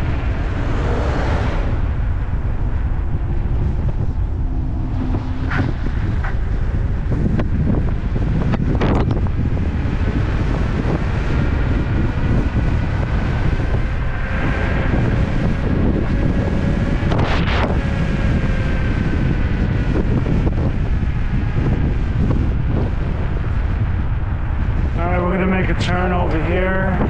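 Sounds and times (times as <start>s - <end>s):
heavy wind on microphone: 0.0s - 27.0s.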